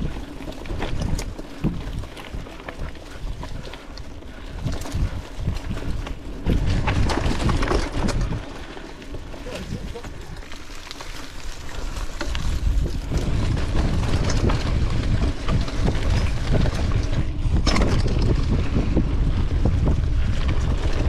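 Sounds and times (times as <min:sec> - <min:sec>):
bike knocks and rattles: 0:00.0 - 0:21.0
tyre rumble: 0:00.0 - 0:21.0
wind buffeting microphone: 0:00.0 - 0:21.0.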